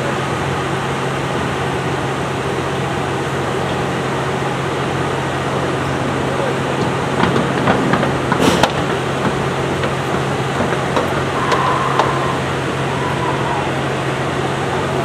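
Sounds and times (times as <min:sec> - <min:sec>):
machine hum with low drone: 0:00.0 - 0:15.0.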